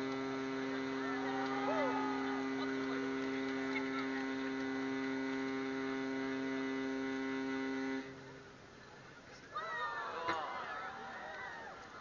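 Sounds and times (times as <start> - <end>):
steady multi-pitch hum: 0.0 - 12.0.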